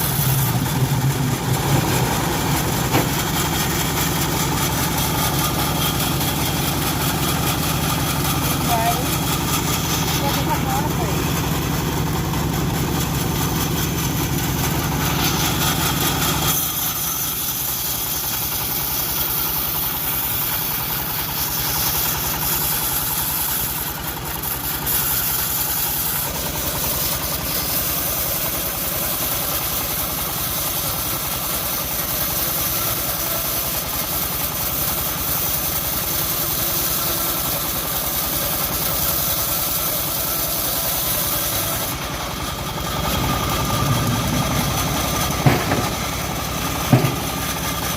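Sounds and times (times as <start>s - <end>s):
bandsaw mill engine hum: 0.0s - 47.9s
high hissing sawing: 0.0s - 47.9s.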